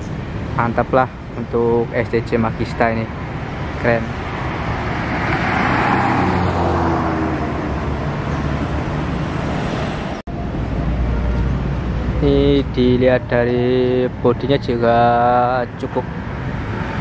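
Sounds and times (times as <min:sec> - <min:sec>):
low engine rumble: 0:00.0 - 0:17.0
vehicle passing: 0:02.3 - 0:17.0.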